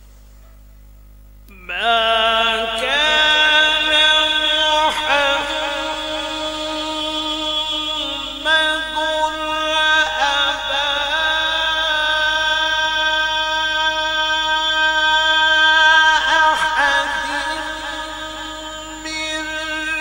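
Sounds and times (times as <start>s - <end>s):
man reciting in melodic chant: 1.5s - 20.0s.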